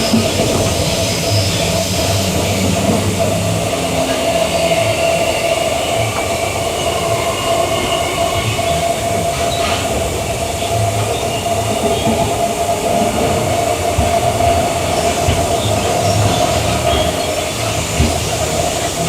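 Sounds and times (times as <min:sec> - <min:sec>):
electric train whining: 0:00.0 - 0:19.0
train wheels rumbling on track: 0:00.0 - 0:19.0.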